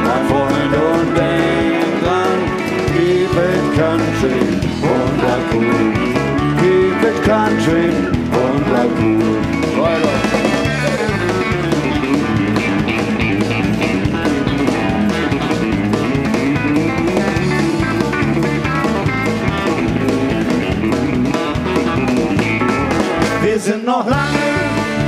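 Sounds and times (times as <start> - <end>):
bass guitar: 0.0 - 25.0
drum kit: 0.0 - 25.0
electric guitar lead: 0.0 - 25.0.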